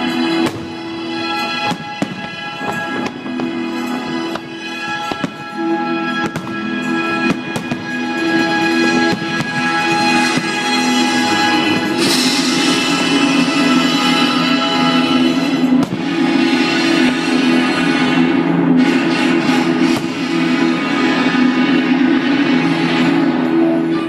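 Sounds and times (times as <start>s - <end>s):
fireworks bangs: 0.0s - 23.2s
music with long held notes: 0.0s - 24.0s.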